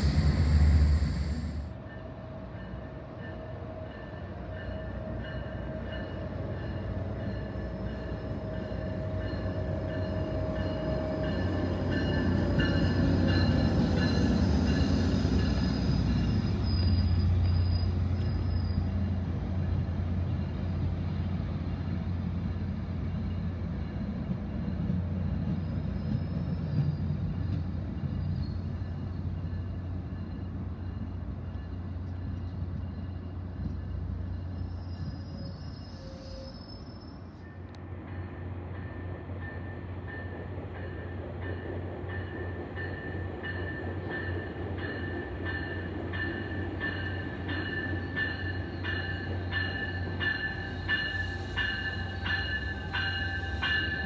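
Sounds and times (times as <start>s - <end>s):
wheel and rail noise: 0.0s - 2.0s, 2.7s - 54.0s
diesel train rumble: 0.0s - 36.7s, 37.3s - 54.0s.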